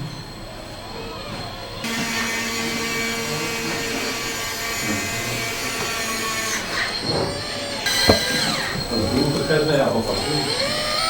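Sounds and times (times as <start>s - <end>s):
small motor whining: 1.8s - 11.0s.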